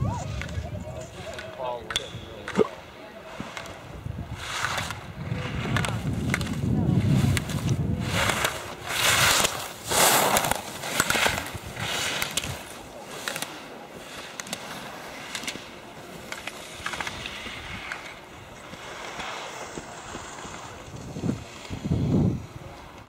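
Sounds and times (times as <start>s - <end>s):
skis scraping across snow: 0.0s - 23.0s.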